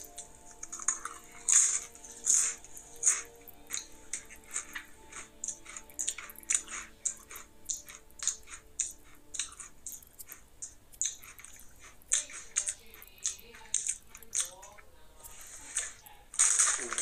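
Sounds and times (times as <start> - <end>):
person crunching tortilla chips: 0.0 - 17.0.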